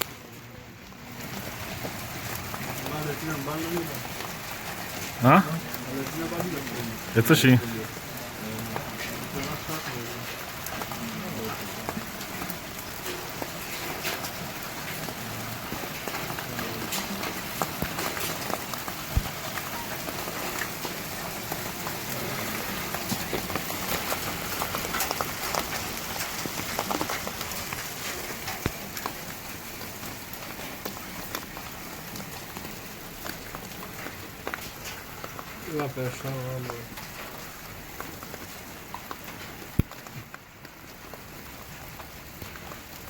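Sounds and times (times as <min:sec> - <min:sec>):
rain patter: 0:00.0 - 0:43.0
sharp raindrop taps: 0:01.1 - 0:43.0.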